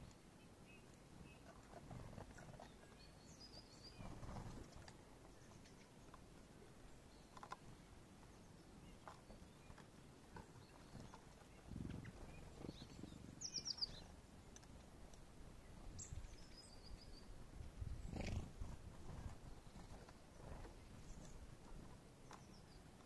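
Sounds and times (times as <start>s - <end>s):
faint low rumbles: 0.0s - 23.0s
songbirds calling: 0.0s - 23.0s.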